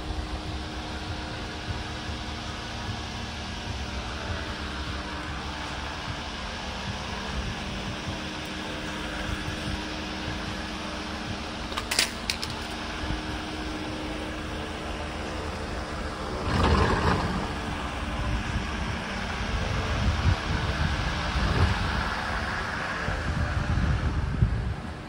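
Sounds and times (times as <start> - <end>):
car engine idling: 0.0 - 25.0
rush of noise: 0.0 - 25.0.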